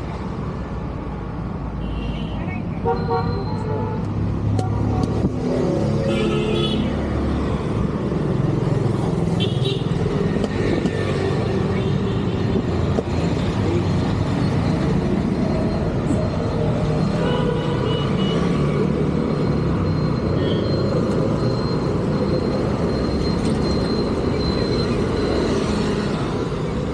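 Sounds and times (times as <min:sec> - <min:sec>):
cars and motorcycles passing: 0:02.5 - 0:26.9.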